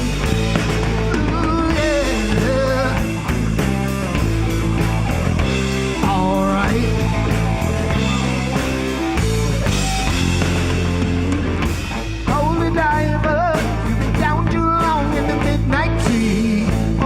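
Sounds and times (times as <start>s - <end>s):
rock band playing live: 0.0s - 17.0s
wavering bending lead guitar line: 0.0s - 17.0s.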